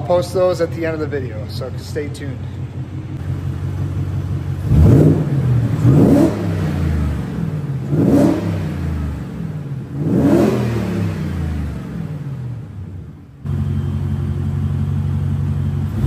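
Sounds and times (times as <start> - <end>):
car engine revving: 0.2 - 16.0.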